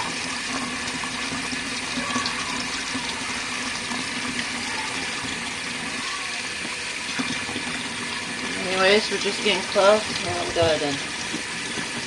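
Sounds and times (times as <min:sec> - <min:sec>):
water filling washing machine tub: 0:00.0 - 0:12.0.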